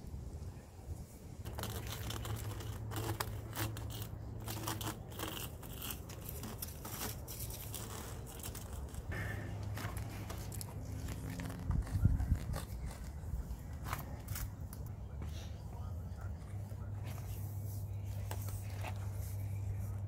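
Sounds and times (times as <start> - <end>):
steady low hum: 0.0 - 20.0
plastic conduit rustling and scraping: 1.4 - 15.5, 16.7 - 20.0.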